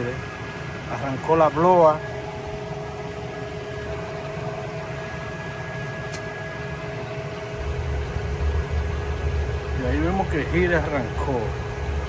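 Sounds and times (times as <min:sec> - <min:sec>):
heater blower fan humming: 0:00.0 - 0:12.0.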